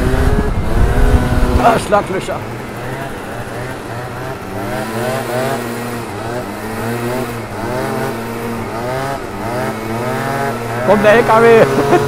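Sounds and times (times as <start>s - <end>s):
scooter engine revving: 0.0s - 12.0s
scooter engine steady drone: 0.0s - 12.0s.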